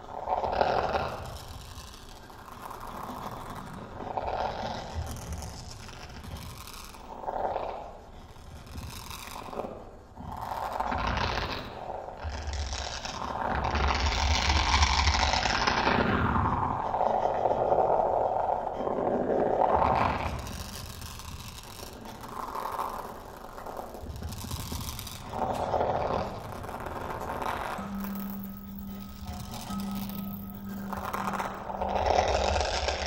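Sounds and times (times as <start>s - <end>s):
processed kalimba scraping textures: 0.0s - 33.0s.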